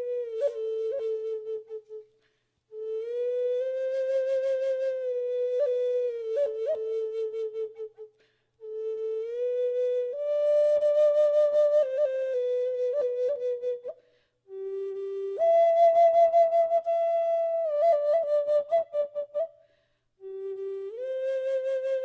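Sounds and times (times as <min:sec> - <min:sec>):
flute solo melody: 0:00.0 - 0:02.1, 0:02.7 - 0:19.6, 0:20.2 - 0:22.0.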